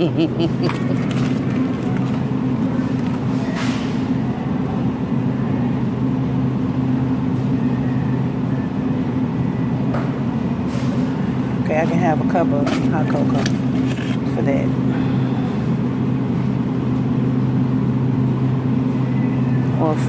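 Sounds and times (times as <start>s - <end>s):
freezer cases humming: 0.0s - 20.0s.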